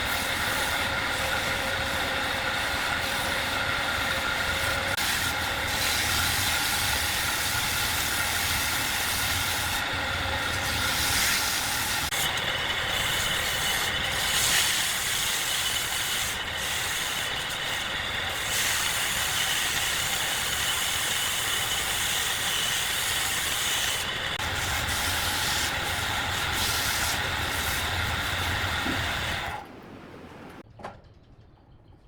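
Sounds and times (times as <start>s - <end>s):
hissing machine with whine: 0.0s - 30.6s.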